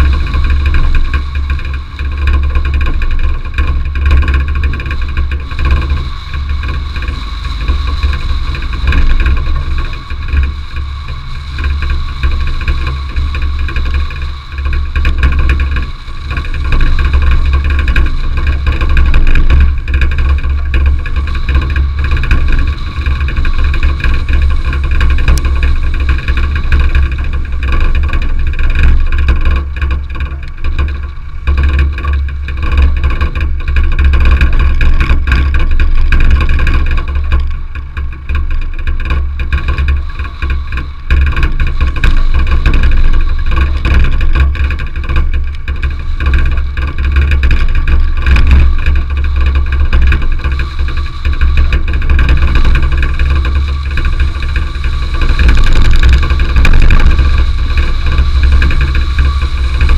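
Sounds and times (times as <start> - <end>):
car engine: 0.0 - 33.9, 37.0 - 59.9
car rumbling on gravel road: 0.0 - 59.9.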